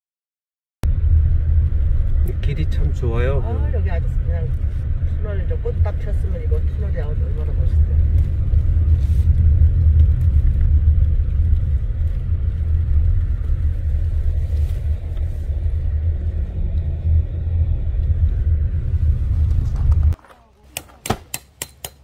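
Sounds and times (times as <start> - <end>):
car engine and tyres rumbling: 0.8 - 22.0.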